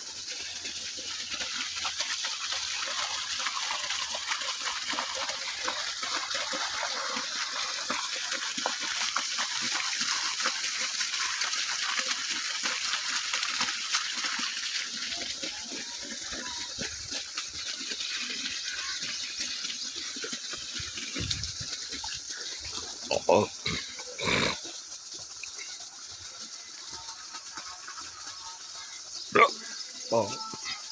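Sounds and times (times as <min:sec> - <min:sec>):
running water rushing: 0:00.0 - 0:30.9.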